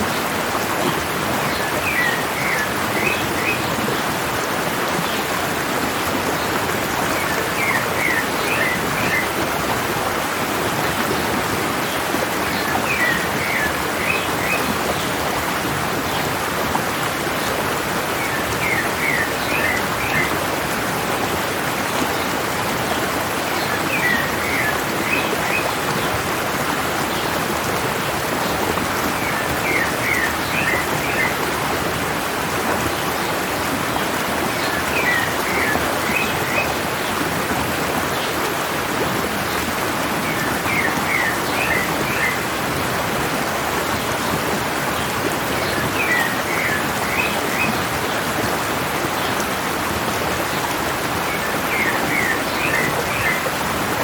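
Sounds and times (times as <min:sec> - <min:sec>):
stream running water: 0:00.0 - 0:54.0.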